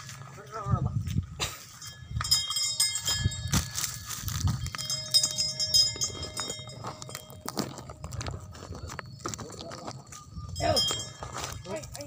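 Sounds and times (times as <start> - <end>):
hoof sounds: 1.7 - 12.0
thin steady high tones: 1.8 - 12.0.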